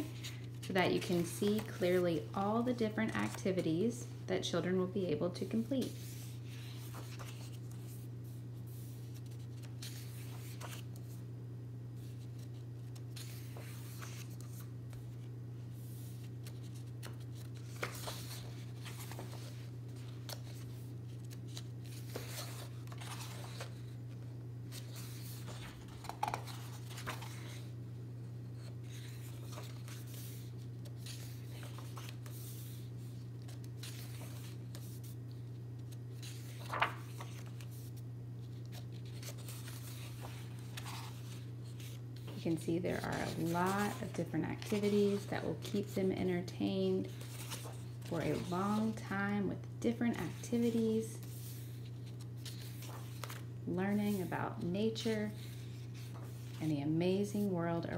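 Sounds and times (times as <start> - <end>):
paper pages flipping: 0.0 - 3.6, 5.8 - 11.2, 12.0 - 27.7, 28.5 - 46.0, 47.0 - 49.0, 50.3 - 53.5, 54.1 - 56.6
steady low hum: 0.0 - 57.9.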